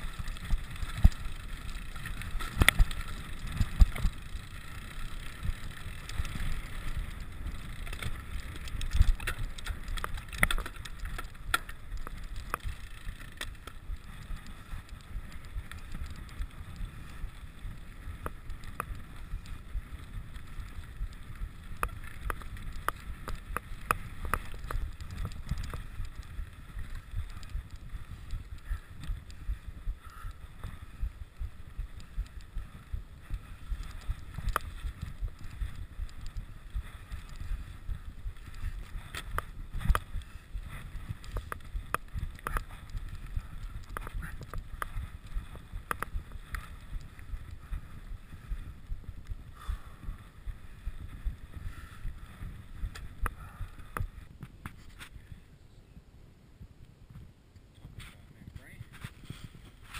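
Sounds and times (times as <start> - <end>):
mountain bike clicks and rattles: 0.0 - 55.5
wind buffeting microphone: 0.0 - 59.9.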